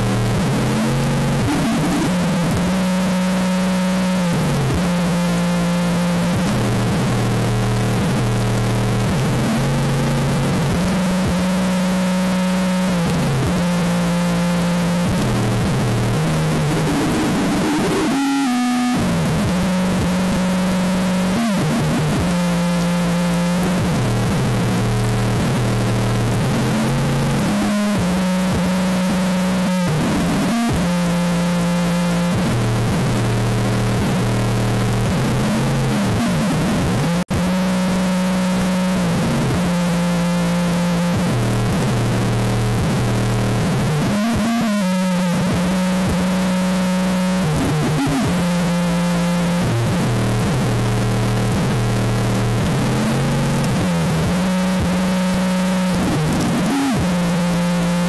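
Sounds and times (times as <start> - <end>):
bass-heavy music through subwoofer: 0.0 - 58.0.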